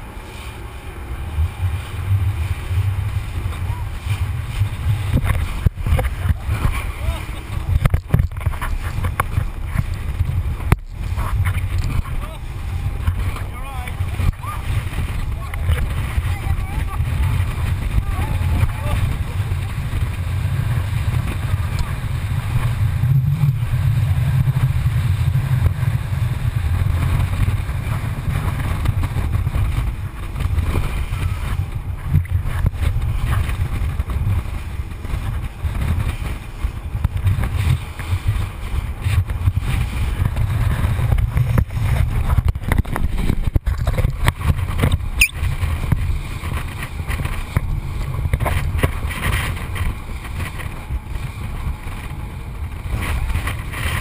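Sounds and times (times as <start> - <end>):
hull buffeting: 0.0 - 54.0
muffled boat engine rumble: 0.0 - 54.0
wind: 0.0 - 54.0.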